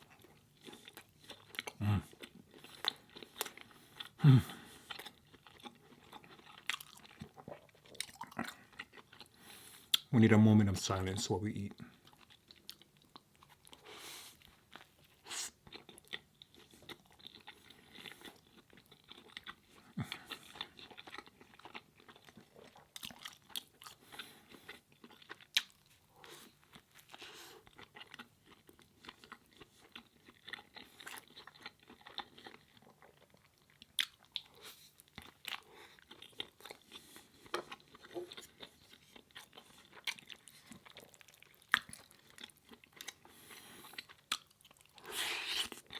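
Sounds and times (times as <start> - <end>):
person chewing food: 0.0 - 10.1, 11.8 - 45.9.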